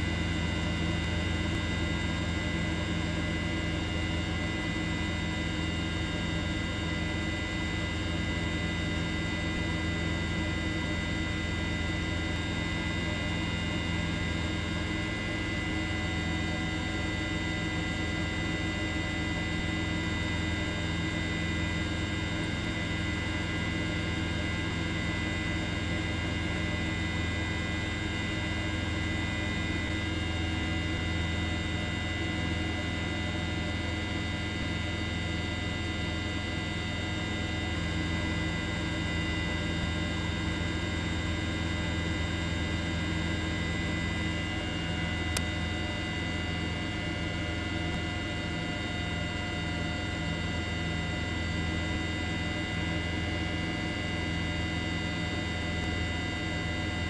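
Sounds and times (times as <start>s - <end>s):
steady hum with low drone: 0.0s - 57.0s.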